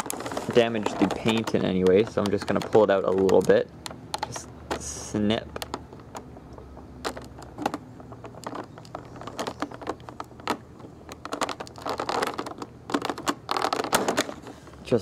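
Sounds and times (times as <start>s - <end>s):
stiff plastic crinkling: 0.0s - 15.0s.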